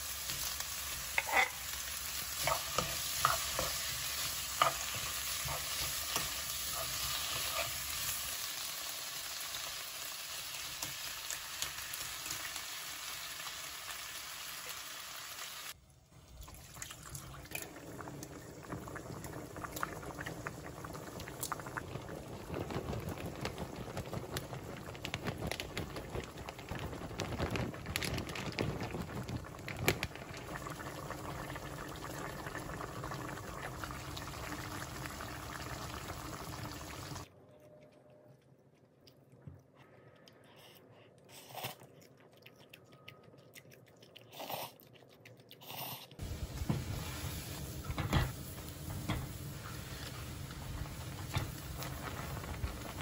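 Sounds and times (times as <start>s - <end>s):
pot of water boiling: 0.0s - 37.3s, 46.2s - 53.0s
sauce bubbling in a frying pan: 0.0s - 37.3s, 46.2s - 53.0s.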